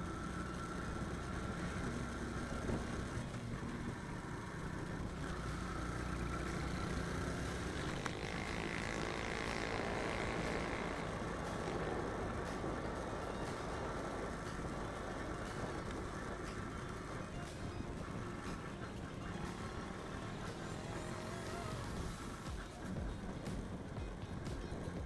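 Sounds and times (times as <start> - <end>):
high engine whine: 0.0 - 25.0
motorcycle engine running: 0.0 - 25.0
road and wind noise: 0.0 - 25.0.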